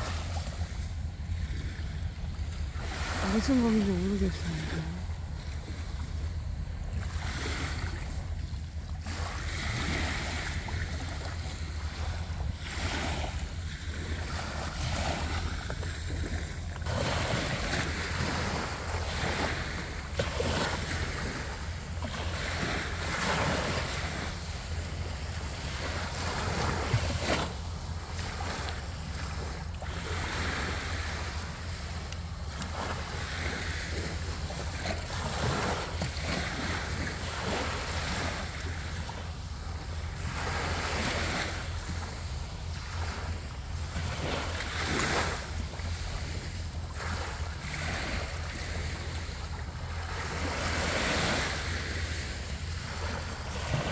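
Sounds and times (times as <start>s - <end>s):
small waves washing on shore: 0.0s - 53.9s
wind rumble on microphone: 0.0s - 53.9s.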